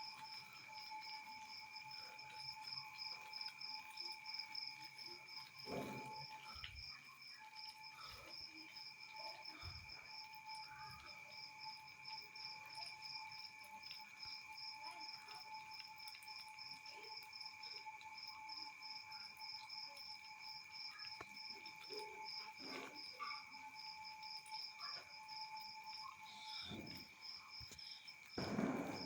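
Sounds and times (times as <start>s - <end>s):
crickets chirping: 0.0s - 29.0s
steady insect tones: 0.0s - 29.0s.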